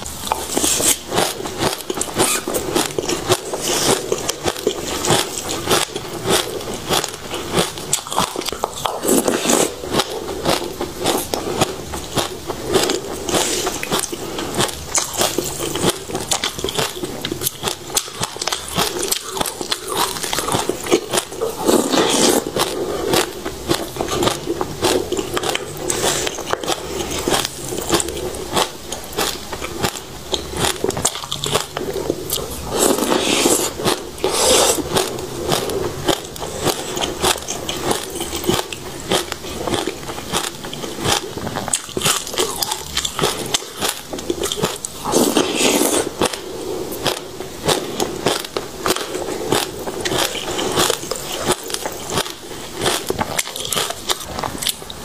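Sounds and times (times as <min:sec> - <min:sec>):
crunching and chewing food: 0:00.0 - 0:55.0.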